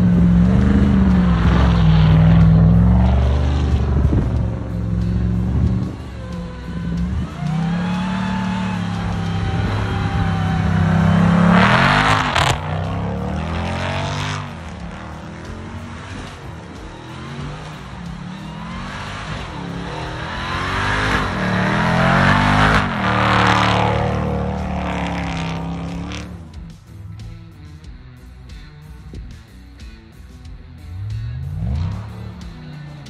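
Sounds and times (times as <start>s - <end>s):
car engine revving: 0.0s - 33.0s
supercharger whine: 0.0s - 33.0s.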